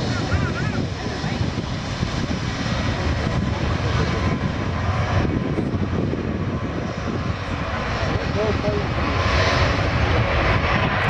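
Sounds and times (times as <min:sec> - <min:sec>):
jet engines at takeoff power: 0:00.0 - 0:11.0.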